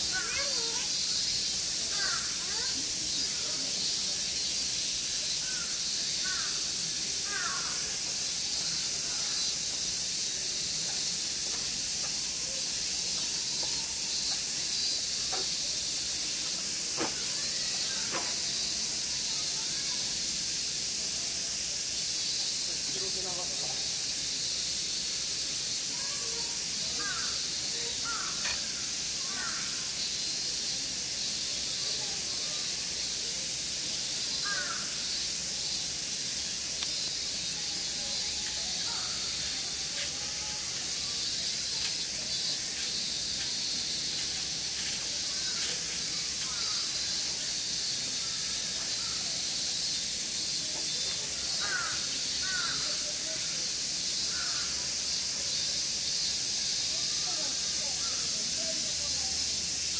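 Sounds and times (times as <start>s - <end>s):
high-pitched outdoor hiss: 0.0s - 59.9s.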